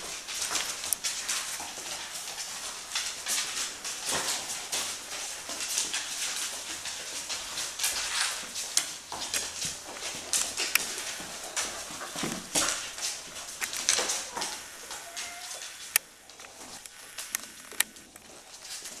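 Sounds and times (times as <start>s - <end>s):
puppies rustling on blanket: 0.0s - 19.0s
small scuffs and clicks: 0.0s - 19.0s.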